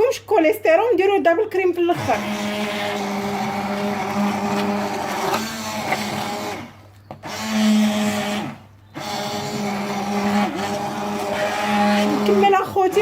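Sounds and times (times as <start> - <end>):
electric hand blender humming: 1.9 - 13.0.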